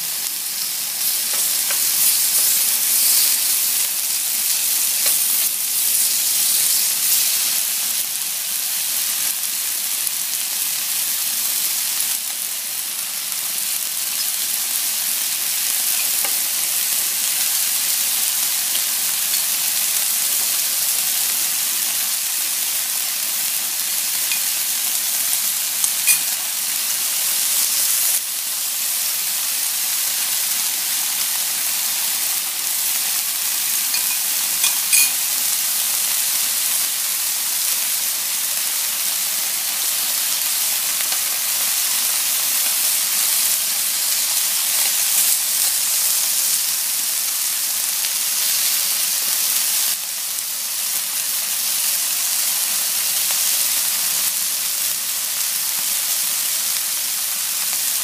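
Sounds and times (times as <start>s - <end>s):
chicken sizzling in a grill pan: 0.0s - 58.0s.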